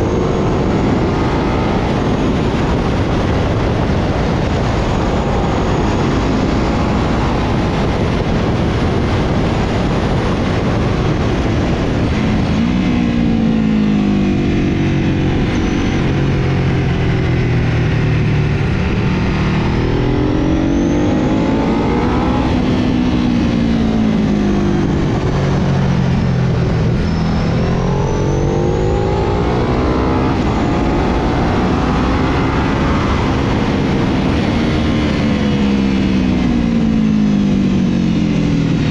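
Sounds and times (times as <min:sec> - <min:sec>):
motorcycle engine accelerating: 0:00.0 - 0:38.9
wind rushing: 0:00.0 - 0:38.9.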